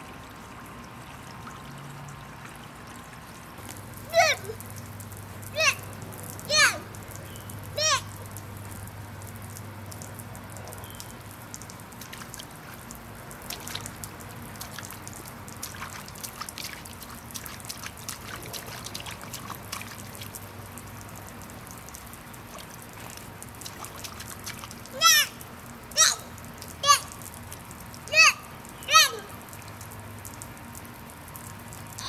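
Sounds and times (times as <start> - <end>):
sprinkler water splashing: 0.0 - 32.0.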